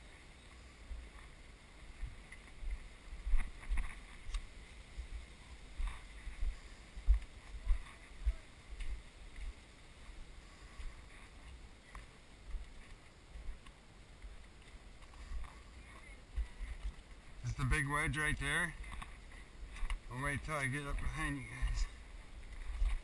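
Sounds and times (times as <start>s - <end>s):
footsteps dull thuds: 0.5s - 5.2s, 5.8s - 17.5s, 20.9s - 23.0s.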